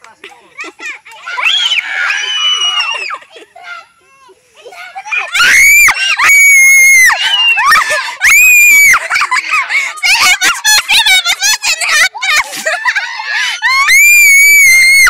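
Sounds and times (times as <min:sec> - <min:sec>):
children screaming: 0:00.6 - 0:15.0
children squealing and shouting: 0:00.6 - 0:15.0.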